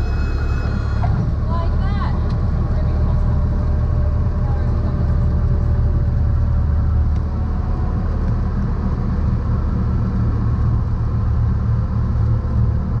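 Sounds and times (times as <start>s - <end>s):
airplane piston engine droning: 0.0s - 11.2s.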